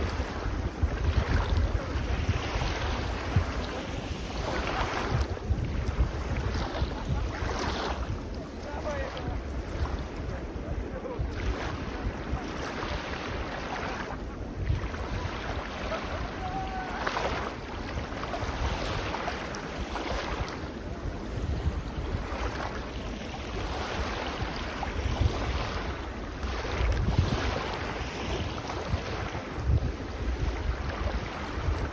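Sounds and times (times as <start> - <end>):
small waves washing onto beach: 0.0 - 31.9
wind buffeting microphone: 0.0 - 31.9.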